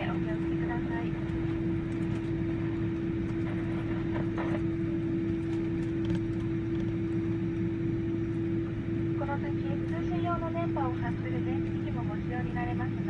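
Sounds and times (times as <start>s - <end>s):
aircraft cabin rumble: 0.0s - 13.0s
droning hum: 0.0s - 13.0s.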